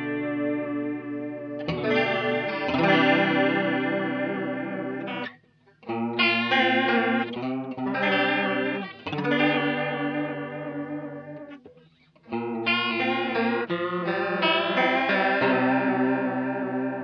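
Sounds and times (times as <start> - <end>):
electric guitar chords with chorus: 0.0 - 17.0.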